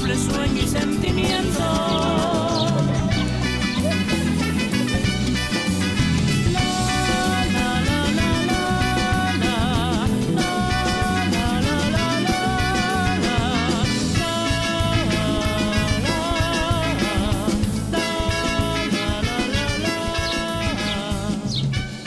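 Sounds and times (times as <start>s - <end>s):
upbeat song with steady beat: 0.0s - 22.0s.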